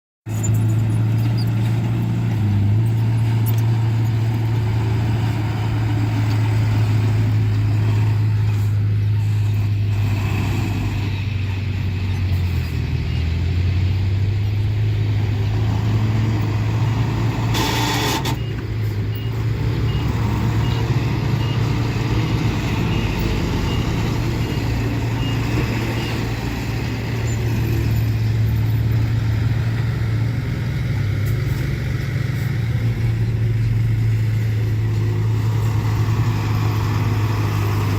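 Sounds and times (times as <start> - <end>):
diesel machinery engine hum: 0.2 - 37.9.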